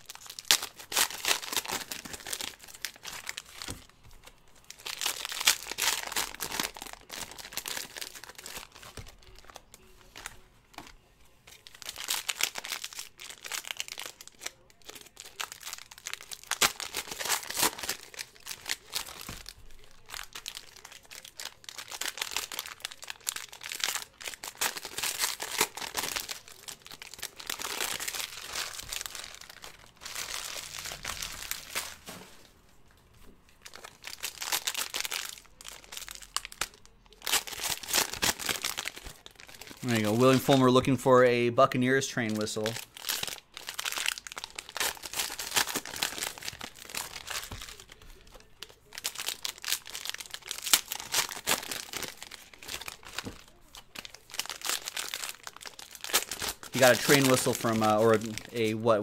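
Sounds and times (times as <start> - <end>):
card wrappers tearing: 0.0 - 32.6, 33.2 - 41.2, 41.8 - 59.0.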